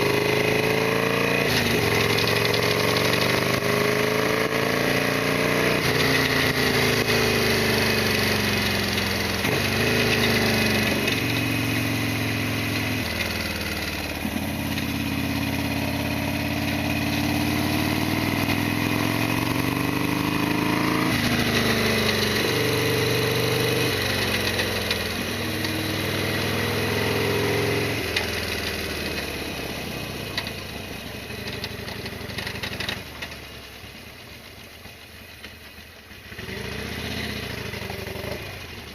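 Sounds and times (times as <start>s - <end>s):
motorcycle engine revving: 0.0s - 33.7s, 36.0s - 38.9s.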